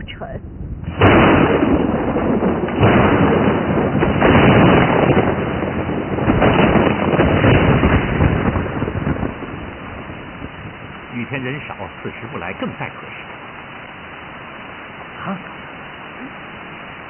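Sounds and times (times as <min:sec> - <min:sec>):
heavy rain downpour: 0:00.0 - 0:17.0
rolling thunder: 0:00.0 - 0:17.0.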